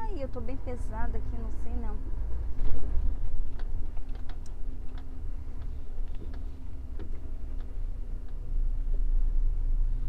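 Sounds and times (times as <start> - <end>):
diesel engine running low: 0.0 - 10.0.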